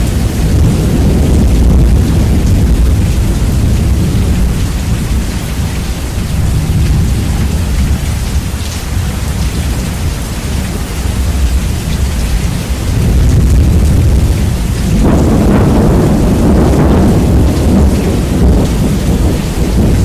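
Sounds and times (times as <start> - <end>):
deep thunder rumble: 0.0 - 20.0
rain hiss: 0.0 - 20.0.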